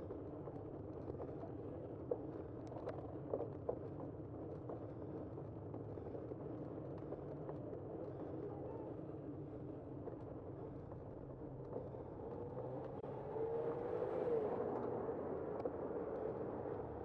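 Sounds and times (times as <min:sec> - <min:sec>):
wind and bicycle road noise: 0:00.0 - 0:17.0.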